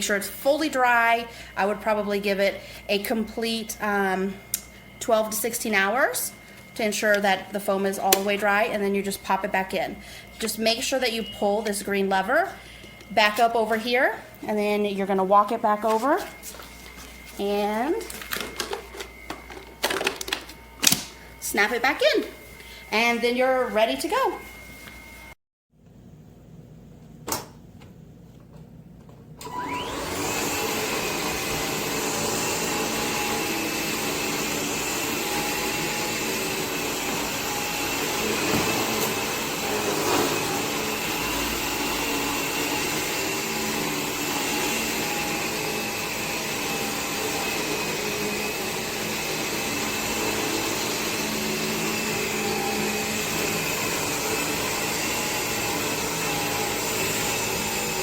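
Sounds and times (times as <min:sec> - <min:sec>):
stick vacuum motor whine: 0:00.0 - 0:25.4, 0:29.4 - 0:58.0.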